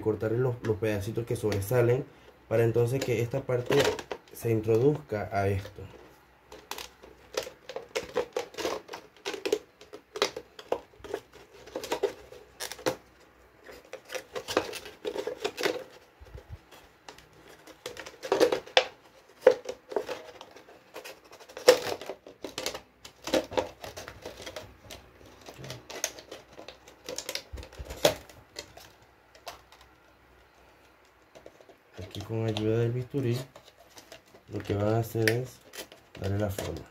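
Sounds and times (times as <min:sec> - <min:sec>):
plastic bottle crackling: 0:06.5 - 0:36.9.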